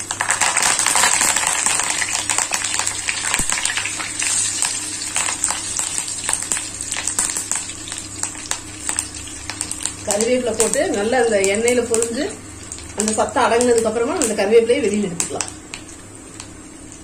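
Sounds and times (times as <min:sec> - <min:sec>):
leaves sizzling in hot oil: 0:00.0 - 0:17.0.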